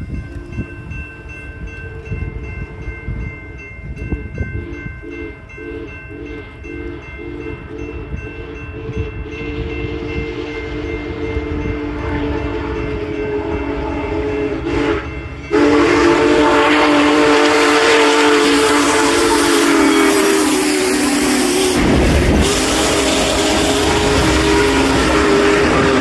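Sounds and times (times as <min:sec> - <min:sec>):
train rumbling past: 0:00.0 - 0:26.0
steam locomotive whistle blasts: 0:04.6 - 0:26.0.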